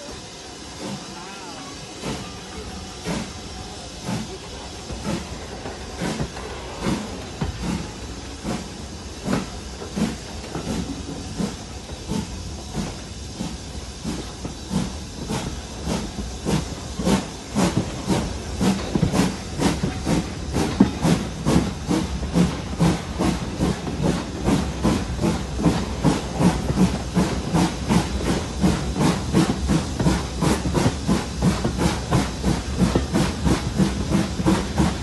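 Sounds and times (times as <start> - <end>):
low rumble of train running: 0.0 - 35.0
steam locomotive chuffing: 0.0 - 35.0.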